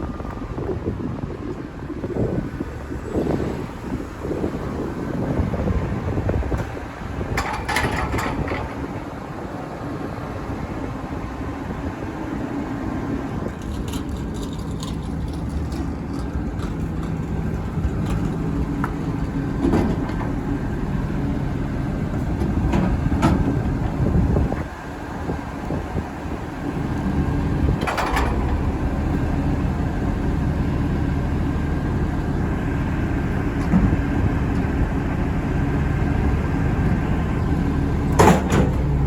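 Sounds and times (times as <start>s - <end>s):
garbage truck engine running: 0.0s - 39.0s.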